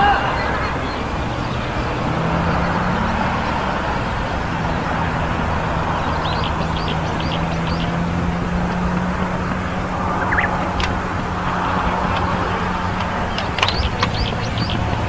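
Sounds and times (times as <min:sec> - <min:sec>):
low engine hum: 0:00.0 - 0:15.0
steady rushing noise: 0:00.0 - 0:15.0.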